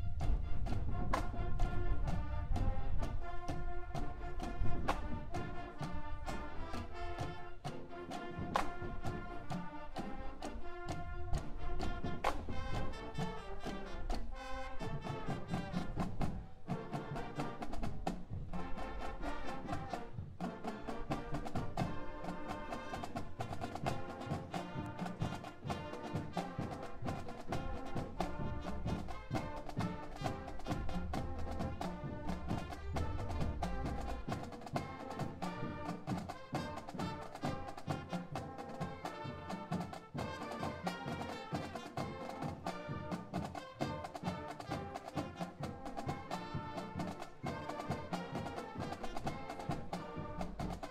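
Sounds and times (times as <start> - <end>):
marching band playing: 0.0 - 50.9
steady drum beat: 0.1 - 50.9.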